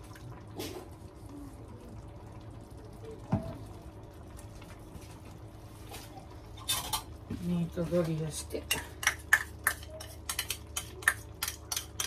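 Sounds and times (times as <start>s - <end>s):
faint liquid sounds: 0.0s - 12.0s.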